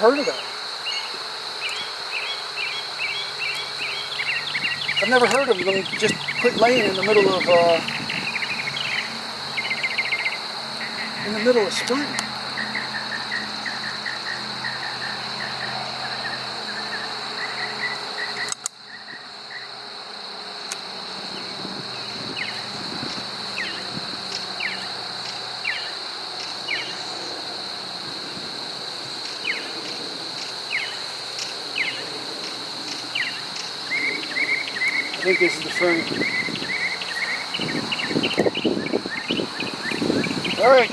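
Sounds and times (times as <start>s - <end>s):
insect trill: 0.0s - 40.9s.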